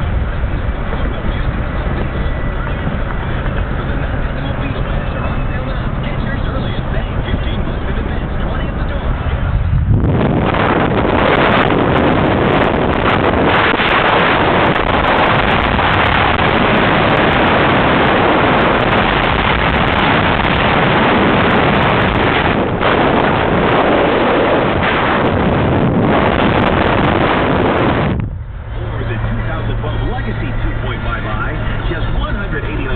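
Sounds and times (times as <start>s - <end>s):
car road noise: 0.0s - 32.9s
wind rushing over microphone: 0.0s - 32.9s.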